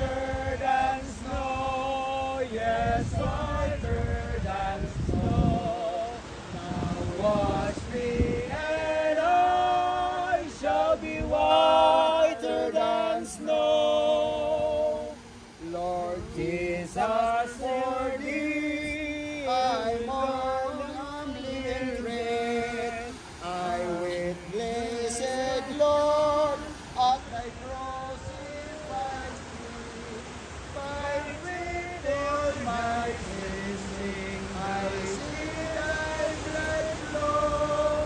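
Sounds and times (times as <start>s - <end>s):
men and women singing together: 0.0s - 38.0s.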